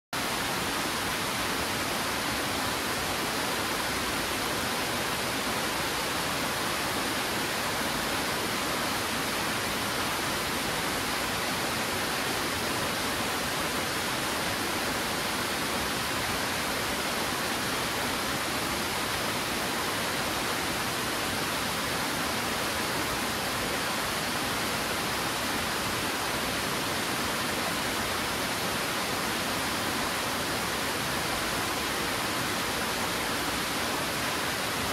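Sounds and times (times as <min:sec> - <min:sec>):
waterfall roaring: 0:00.2 - 0:34.9.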